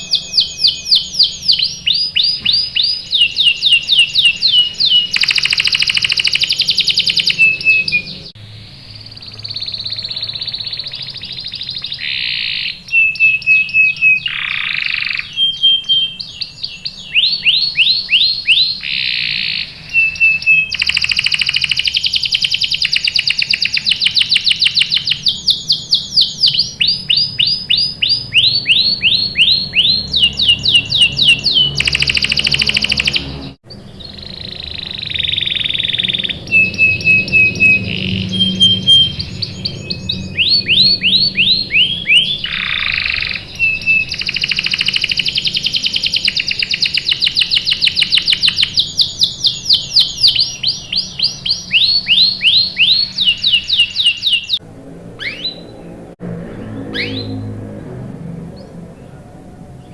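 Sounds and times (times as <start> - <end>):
canary singing trills: 0.0 - 57.8.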